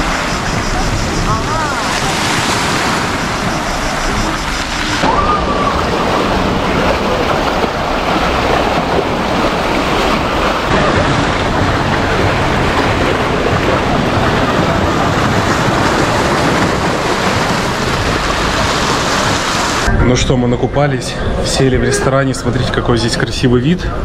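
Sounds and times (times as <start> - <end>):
waves washing on shore: 0.0 - 20.0
wind rumbling on microphone: 0.0 - 24.0.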